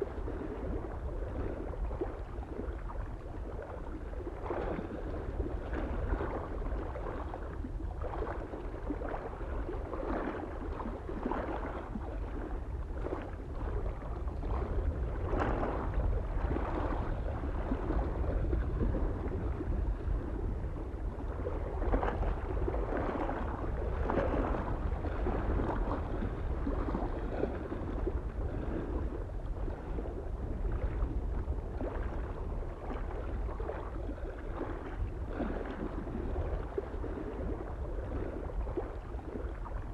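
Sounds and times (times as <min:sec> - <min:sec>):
low wind rumble: 0:00.0 - 0:39.9
small waves lapping on shore: 0:00.0 - 0:39.9.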